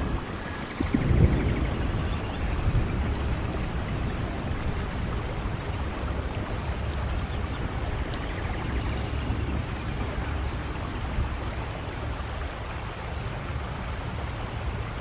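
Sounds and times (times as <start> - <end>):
steady rain: 0.0 - 15.0
wind rumble on microphone: 0.0 - 15.0.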